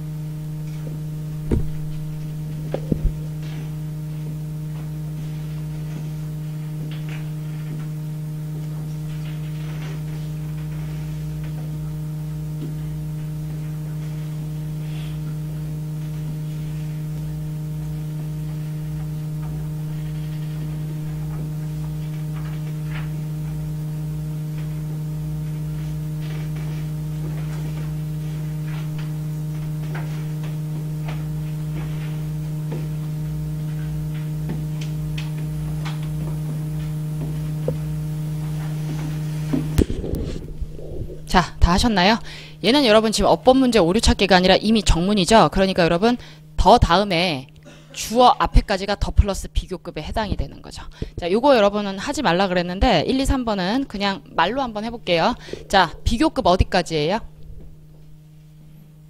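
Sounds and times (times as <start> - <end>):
uneven low throb: 0.0 - 47.8, 49.2 - 59.0
low hum with overtones: 0.0 - 59.0.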